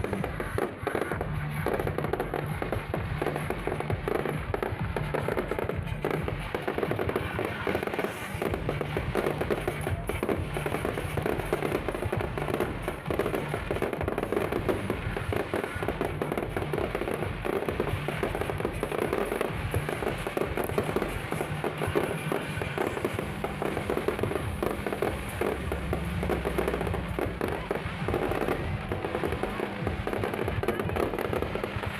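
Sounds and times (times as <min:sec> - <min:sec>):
fireworks crackling and popping: 0:00.0 - 0:31.9
music playing: 0:00.0 - 0:31.9.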